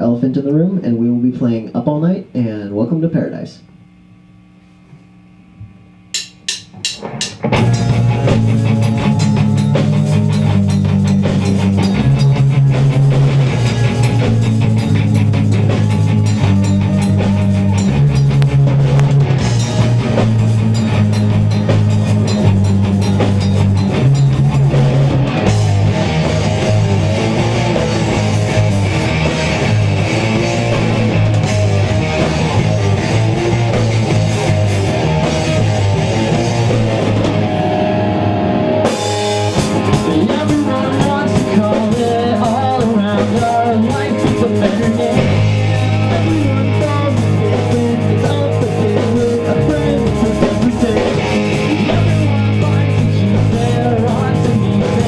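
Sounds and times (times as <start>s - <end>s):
repeating bass line: 5.2s - 55.0s
rock band playing: 6.1s - 55.0s.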